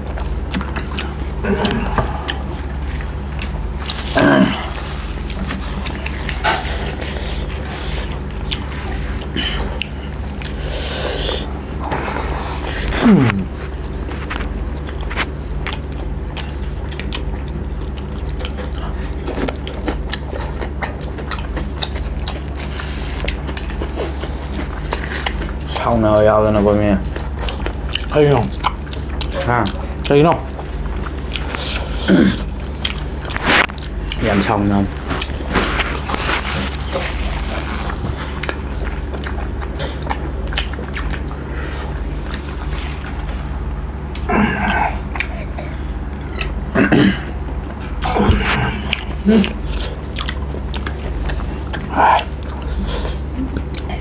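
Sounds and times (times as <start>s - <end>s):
chewing and mouth smacking: 0.0s - 54.0s
steady low hum: 0.0s - 54.0s.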